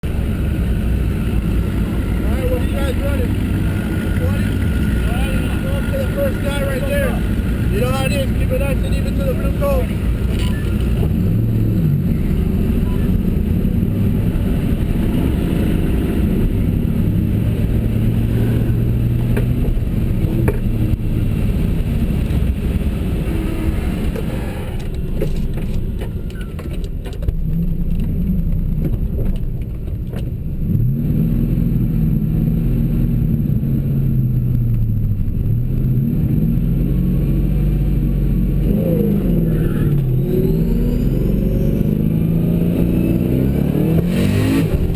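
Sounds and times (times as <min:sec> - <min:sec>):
car engines accelerating hard: 0:00.0 - 0:44.9.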